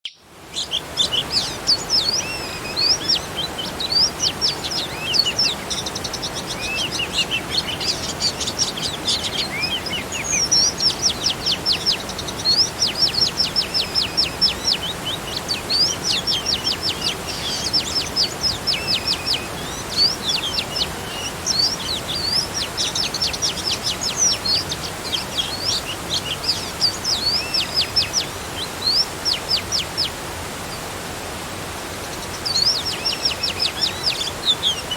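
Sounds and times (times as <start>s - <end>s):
small waterfall rushing: 0.1s - 34.9s
songbirds chirping and trilling: 0.1s - 34.9s.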